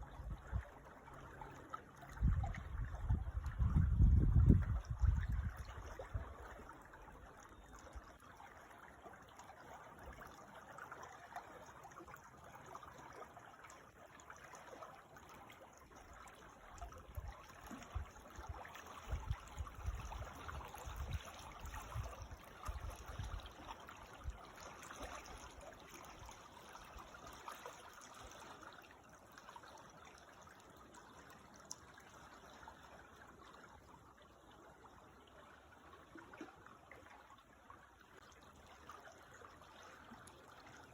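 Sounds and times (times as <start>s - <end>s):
creek water babbling: 0.0s - 40.9s.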